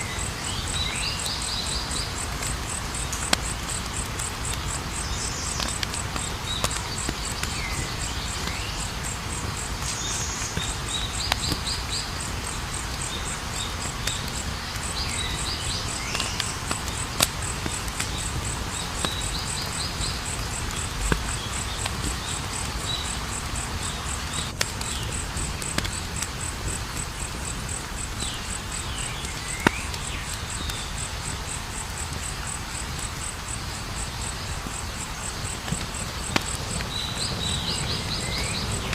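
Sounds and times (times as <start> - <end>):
insect trill: 0.0 - 38.9
wood fire crackling: 0.0 - 38.9.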